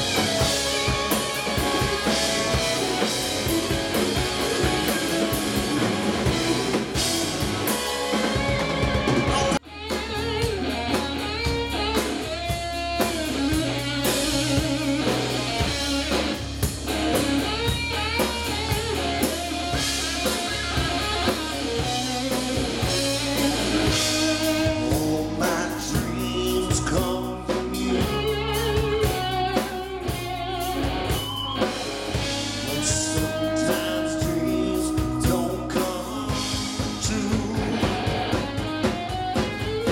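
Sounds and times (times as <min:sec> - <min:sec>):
lead guitar bending pitch: 0:00.0 - 0:35.2
rock band playing live: 0:00.0 - 0:39.9.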